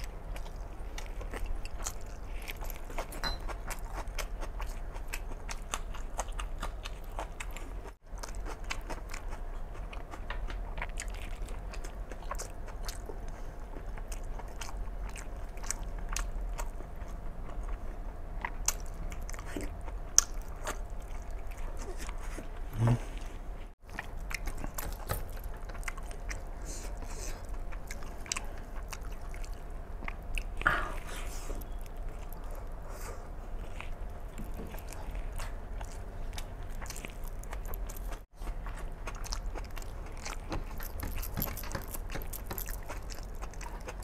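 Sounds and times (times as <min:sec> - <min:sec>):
chewing and wet mouth clicks: 0:00.0 - 0:23.0, 0:23.8 - 0:30.7, 0:31.5 - 0:32.9, 0:33.6 - 0:44.0.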